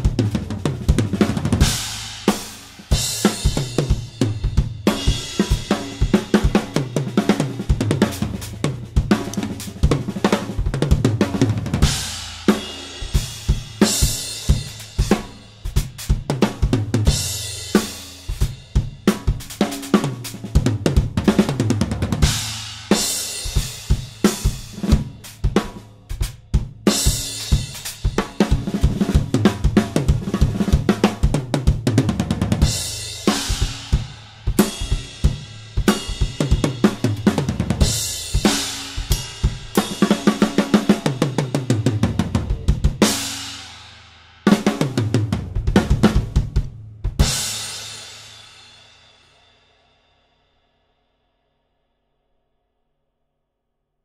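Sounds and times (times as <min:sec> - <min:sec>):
drum kit grooves: 0:00.0 - 0:49.4.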